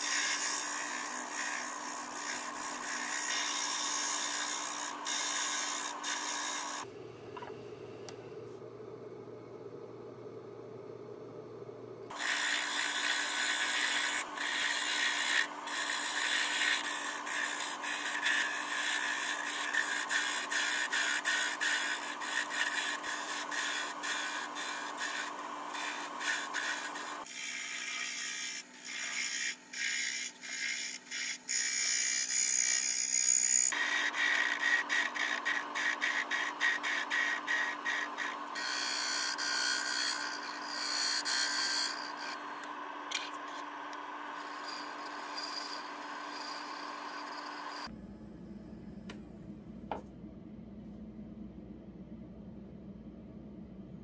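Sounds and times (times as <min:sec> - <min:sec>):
chisel scraping spinning wood: 0:00.0 - 0:07.6, 0:12.1 - 0:47.9
wood lathe motor hum: 0:00.0 - 0:07.7, 0:12.1 - 0:47.9.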